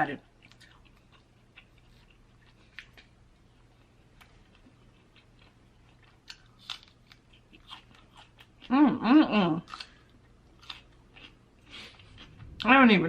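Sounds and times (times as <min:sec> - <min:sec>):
person chewing crunchy food: 0:00.3 - 0:08.8, 0:09.6 - 0:12.6.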